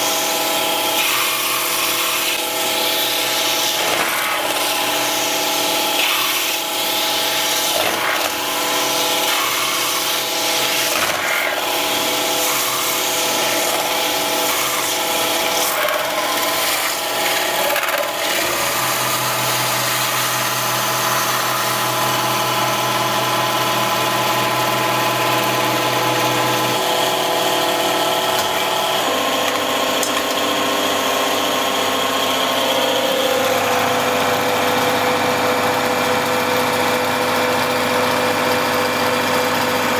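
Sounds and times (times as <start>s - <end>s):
metal-spinning lathe hum: 0.0s - 39.9s.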